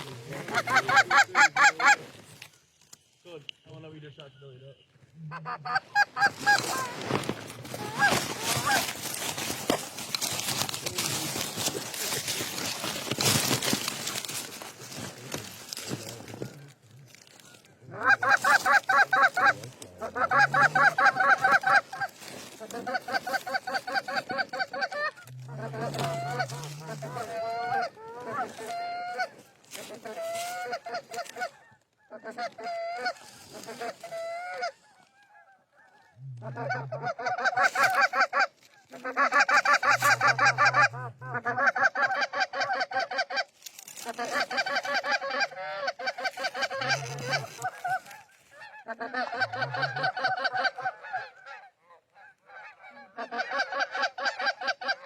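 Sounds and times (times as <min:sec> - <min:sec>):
goose honking and clucking: 0:00.0 - 0:02.5, 0:05.2 - 0:55.0.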